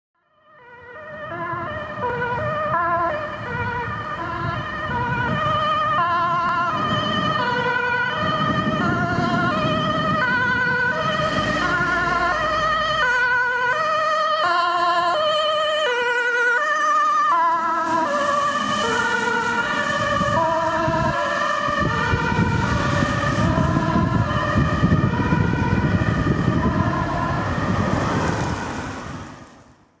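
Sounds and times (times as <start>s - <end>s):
two-tone siren: 0.2s - 29.7s
engine and tyre noise: 0.6s - 30.0s.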